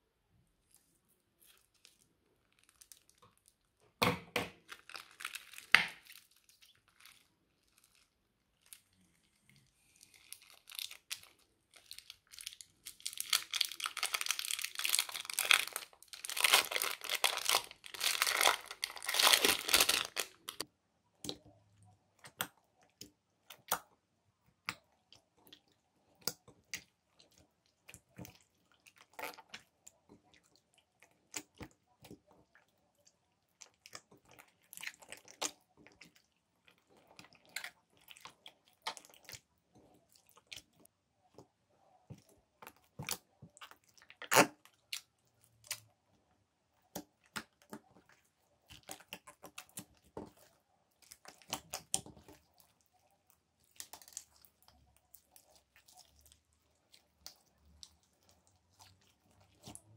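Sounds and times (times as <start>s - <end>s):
slime crackling and crinkling: 0.6s - 4.0s, 4.6s - 20.7s, 24.6s - 59.9s.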